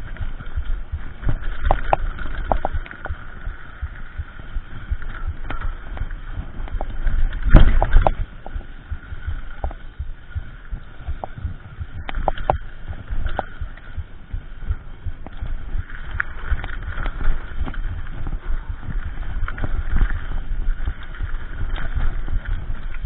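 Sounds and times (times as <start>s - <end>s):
bike thumping and rattling: 0.0s - 23.0s
steady rush of noise: 0.0s - 23.0s.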